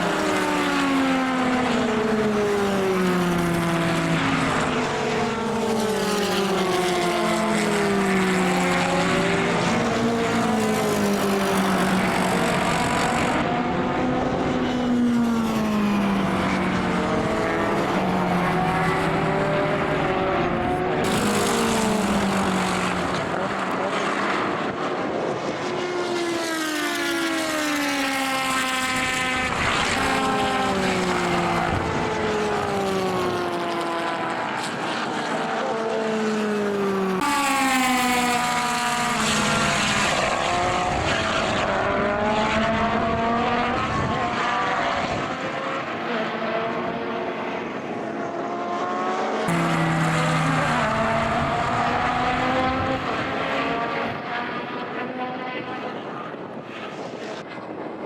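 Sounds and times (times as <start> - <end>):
racing cars passing at full throttle: 0.0 - 58.0.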